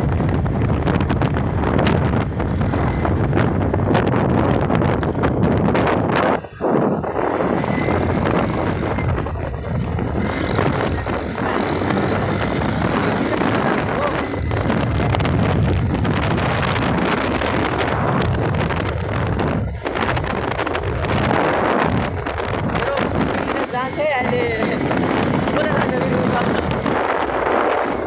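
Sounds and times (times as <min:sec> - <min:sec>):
scooter engine running: 0:00.0 - 0:28.0
wind buffeting microphone: 0:00.0 - 0:28.0.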